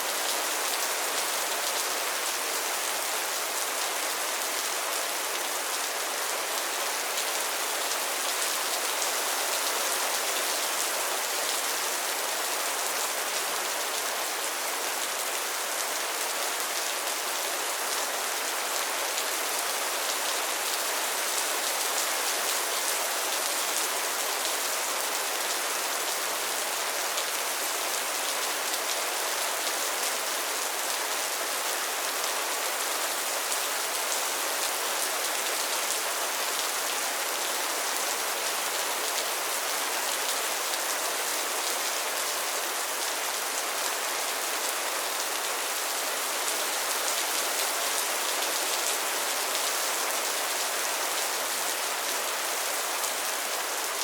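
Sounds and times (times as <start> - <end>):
rain falling on a pond: 0.0 - 54.0.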